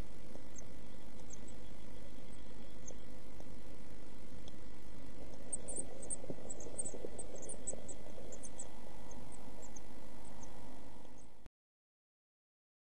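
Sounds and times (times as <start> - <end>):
microphone hiss and hum: 0.0 - 11.5.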